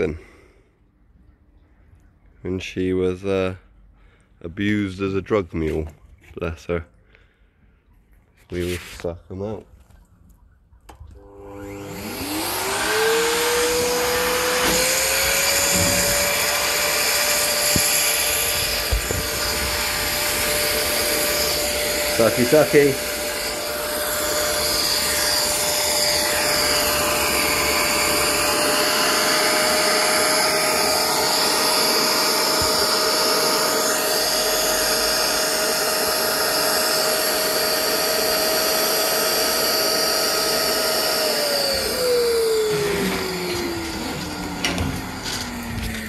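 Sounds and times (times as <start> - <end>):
wet-and-dry vacuum sucking water: 7.8 - 46.0.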